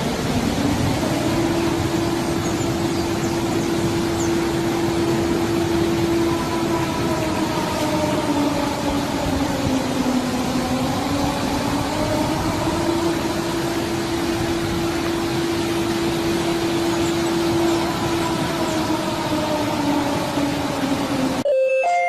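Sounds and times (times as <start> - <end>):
warning siren wavering tone: 0.0 - 22.0.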